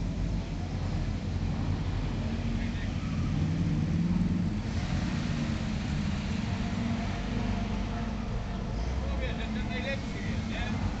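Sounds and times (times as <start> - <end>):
jeep engine passing: 0.0 - 11.0
pickup truck engine passing: 0.0 - 11.0.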